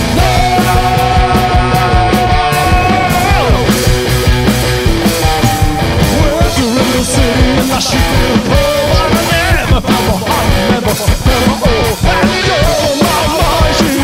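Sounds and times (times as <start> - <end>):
electric guitar bending notes: 0.0 - 12.8
rock band playing live: 0.0 - 14.0
steady drum beat: 0.0 - 14.0.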